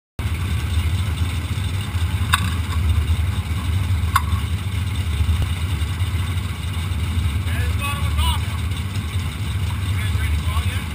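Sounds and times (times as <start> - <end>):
car engine idling: 0.2 - 10.9.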